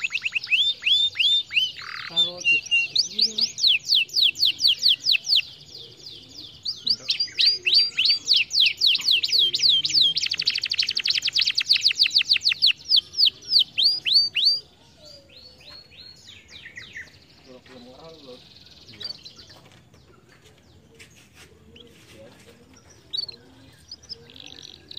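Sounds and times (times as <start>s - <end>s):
canary singing whistled notes and trills: 0.0s - 21.2s, 21.8s - 24.9s.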